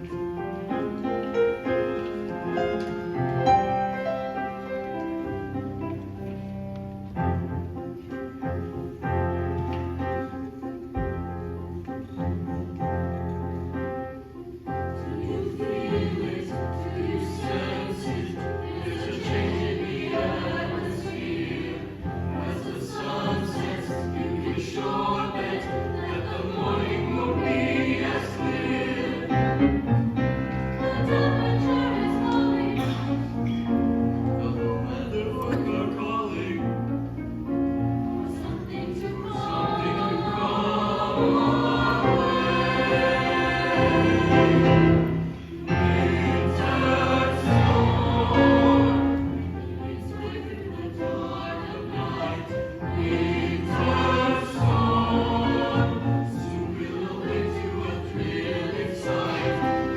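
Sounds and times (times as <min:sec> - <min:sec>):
choir singing in harmony: 0:00.0 - 0:06.3, 0:07.2 - 0:59.9.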